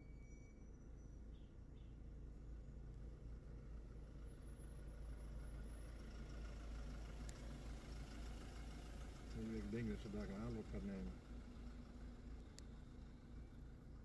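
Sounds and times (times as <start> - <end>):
car engine idling: 2.0 - 14.0.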